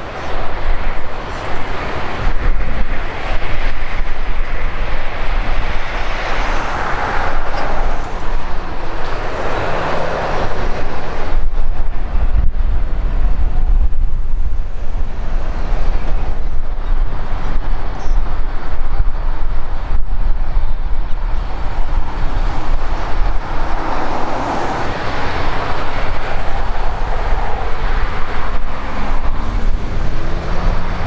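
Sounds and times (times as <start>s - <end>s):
jet engines roaring: 0.0s - 31.0s
wind buffeting microphone: 0.0s - 31.0s.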